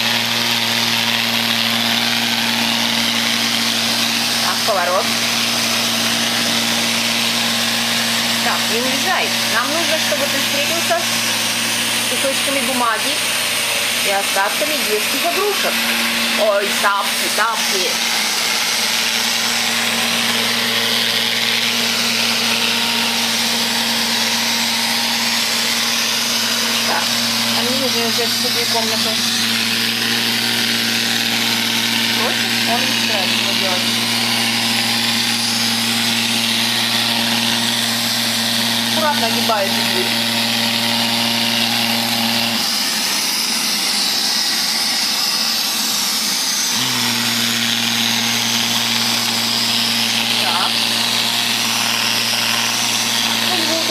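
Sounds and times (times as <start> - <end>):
robot vacuum cleaner whirring: 0.0 - 53.9.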